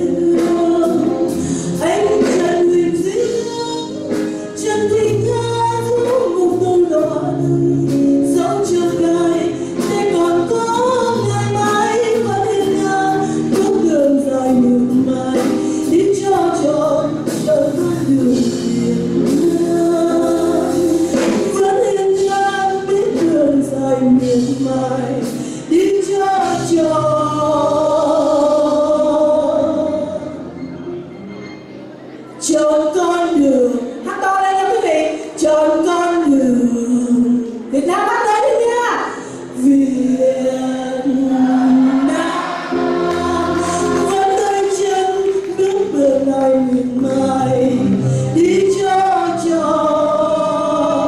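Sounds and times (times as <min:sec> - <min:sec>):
woman singing into microphone: 0:00.0 - 0:30.4, 0:32.4 - 0:51.0
live band with bass and drums: 0:00.0 - 0:32.5, 0:41.0 - 0:51.0.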